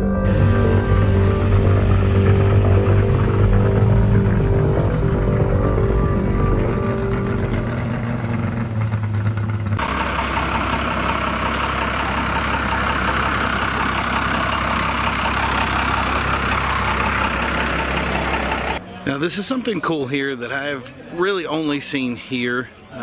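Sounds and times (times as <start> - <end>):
car engine idling: 0.0 - 18.8
noisier engine running: 0.0 - 18.8.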